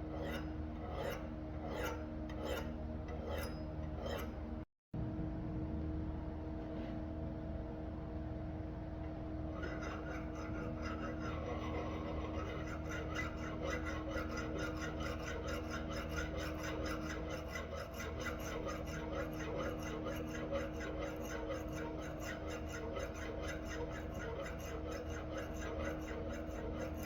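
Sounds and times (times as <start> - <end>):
hand file rasping: 0.0 - 4.4, 9.5 - 27.0
steady low hum: 0.0 - 27.0.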